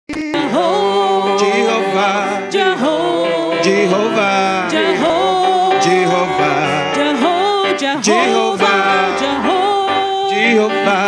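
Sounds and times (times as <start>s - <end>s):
gospel singing with band: 0.2s - 11.0s.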